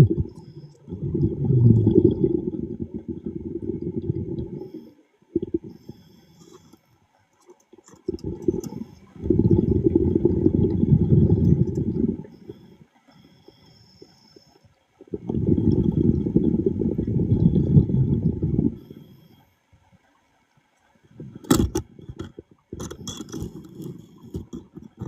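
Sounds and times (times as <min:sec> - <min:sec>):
underwater bubbles gurgling: 0:00.0 - 0:19.2, 0:19.8 - 0:25.0.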